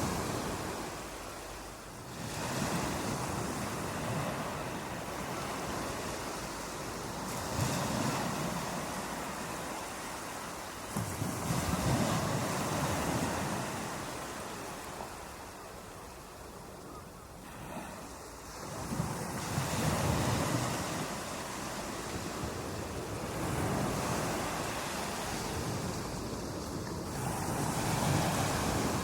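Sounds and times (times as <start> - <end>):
ocean waves breaking on a beach: 0.0 - 29.0.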